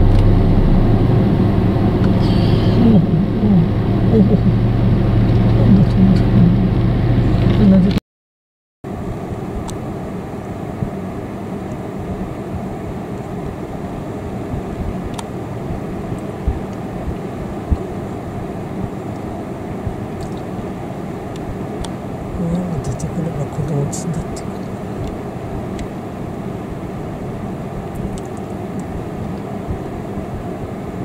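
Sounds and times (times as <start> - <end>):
low outdoor rumble: 0.0 - 8.0, 8.9 - 31.0.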